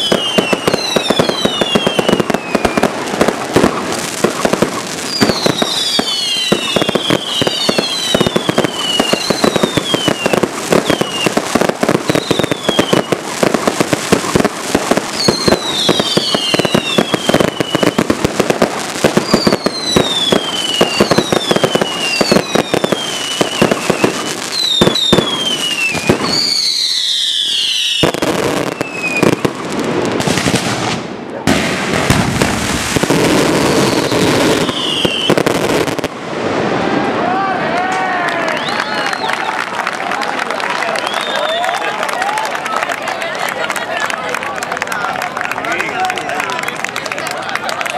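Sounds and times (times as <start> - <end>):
whistling fireworks: 0.0 - 40.0, 40.7 - 43.8
fireworks bangs and crackling: 0.0 - 47.9.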